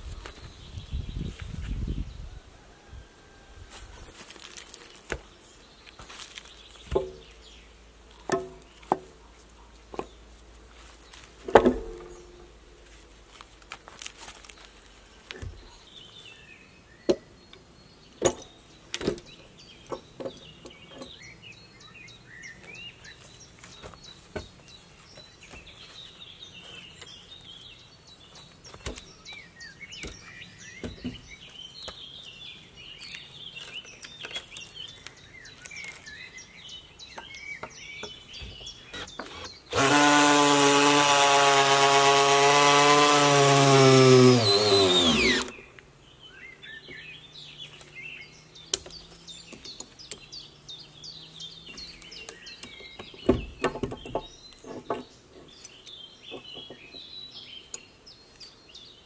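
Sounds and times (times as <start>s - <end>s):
birds chirping: 0.0s - 13.2s, 14.4s - 59.0s.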